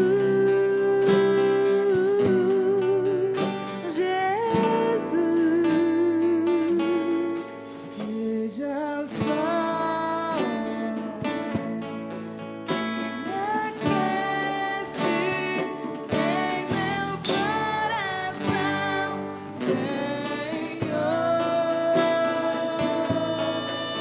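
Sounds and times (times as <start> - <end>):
acoustic guitar playing: 0.0 - 24.0
person singing: 0.0 - 24.0.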